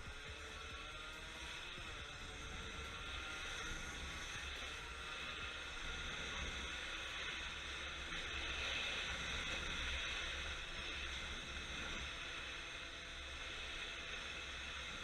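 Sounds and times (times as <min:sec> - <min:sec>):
hissing rush of noise: 0:00.0 - 0:15.0.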